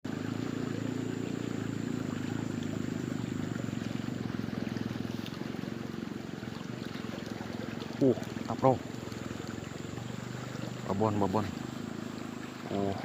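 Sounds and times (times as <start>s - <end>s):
small engine running: 0.1s - 13.0s.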